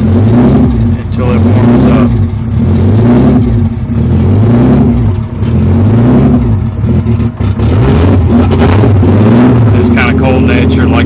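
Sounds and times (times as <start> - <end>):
car engine idle hunting: 0.0 - 7.6, 9.6 - 11.0.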